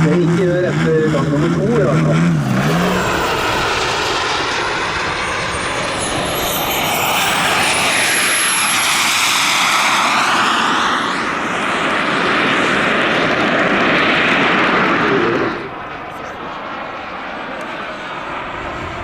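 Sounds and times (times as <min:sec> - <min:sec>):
model jet turbine whine: 0:00.0 - 0:19.0.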